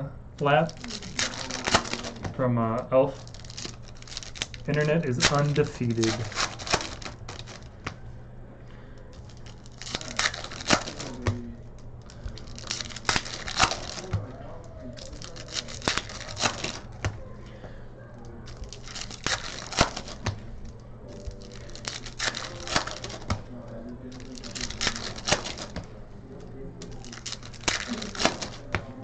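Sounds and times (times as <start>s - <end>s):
steady low hum: 0.0s - 29.0s
cards clicking: 0.4s - 2.4s, 3.2s - 8.0s, 9.1s - 29.0s
wrappers tearing and crinkling: 0.4s - 2.4s, 3.0s - 8.1s, 8.8s - 29.0s.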